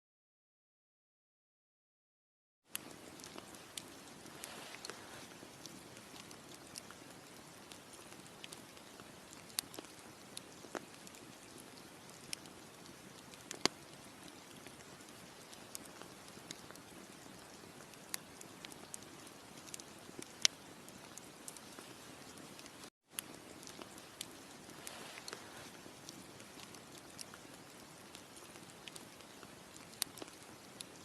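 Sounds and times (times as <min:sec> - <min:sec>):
campfire crackling and popping: 0:02.7 - 0:31.0.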